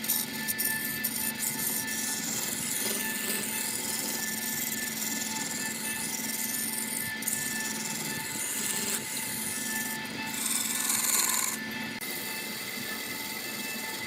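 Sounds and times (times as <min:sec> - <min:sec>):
wood lathe tool scraping wood: 0:00.0 - 0:14.0.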